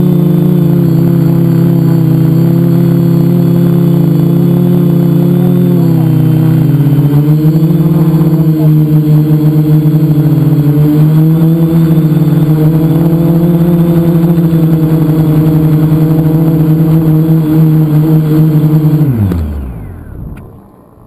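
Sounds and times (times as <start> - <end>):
drone motors buzzing: 0.0 - 21.0.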